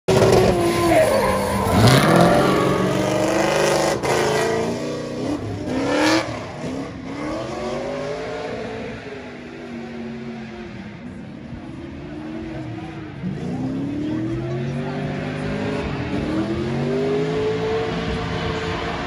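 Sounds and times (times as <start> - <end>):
drift car engine revving: 0.1 - 19.0.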